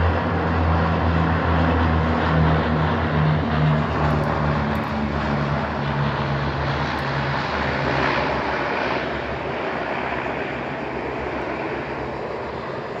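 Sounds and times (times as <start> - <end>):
propeller plane droning past: 0.0 - 13.0.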